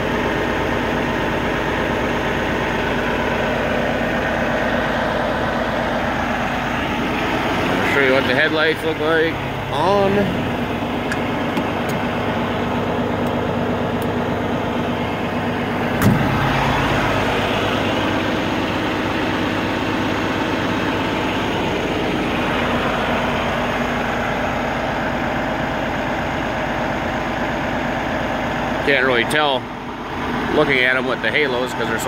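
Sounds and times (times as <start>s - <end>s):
diesel truck engine idling: 0.0s - 32.0s
engine knock: 0.0s - 32.0s.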